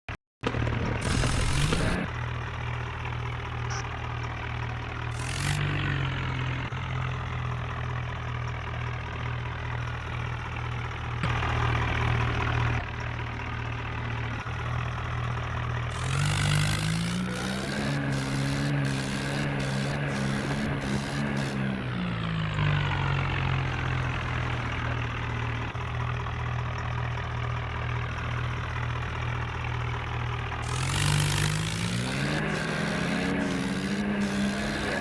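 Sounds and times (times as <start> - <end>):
tractor engine running: 0.4 - 35.0.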